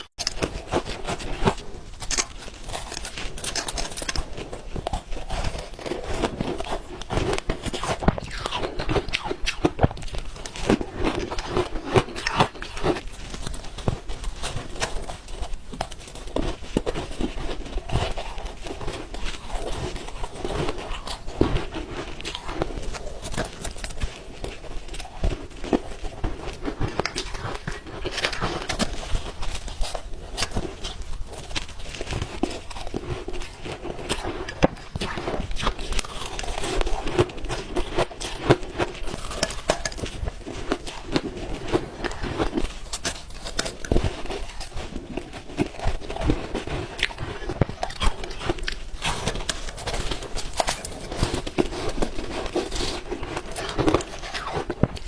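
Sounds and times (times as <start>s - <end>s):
ice being chewed and crunched: 0.0s - 55.0s.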